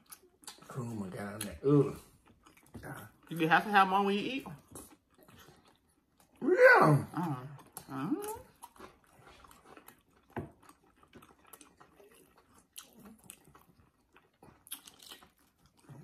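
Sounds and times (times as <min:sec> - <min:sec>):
person chewing with mouth smacks: 0:00.0 - 0:03.3, 0:04.5 - 0:06.4, 0:07.1 - 0:16.0.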